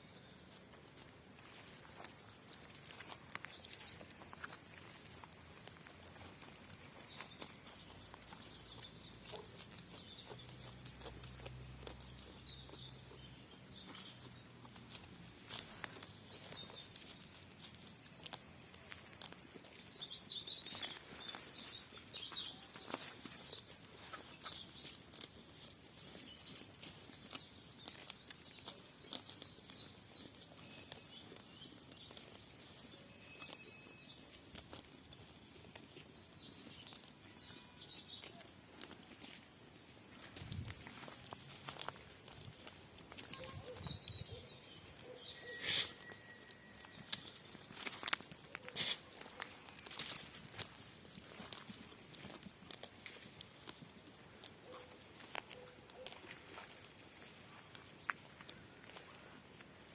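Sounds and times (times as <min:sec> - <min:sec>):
small birds chirping: 0:00.0 - 0:59.3.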